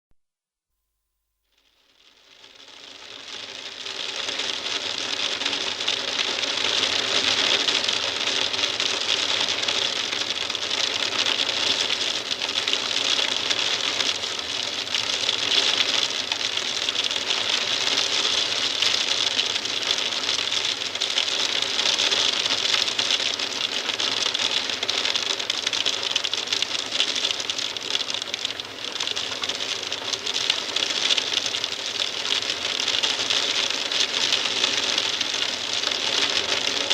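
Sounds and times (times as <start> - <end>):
hail tapping on glass: 2.4 - 36.9.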